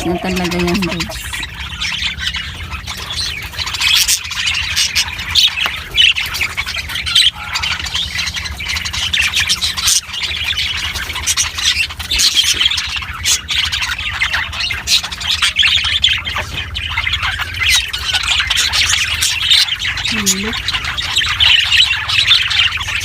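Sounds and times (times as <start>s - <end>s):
lovebirds squawking and chattering: 0.0s - 23.0s
steady low hum: 0.0s - 23.0s.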